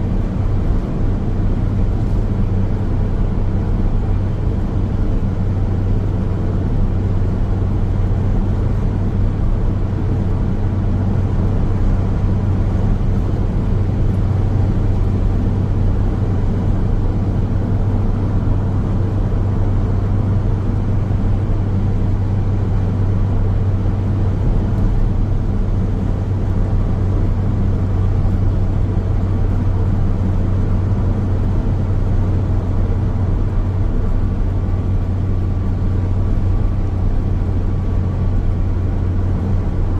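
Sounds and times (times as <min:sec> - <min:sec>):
car road and tyre noise: 0:00.0 - 0:39.9.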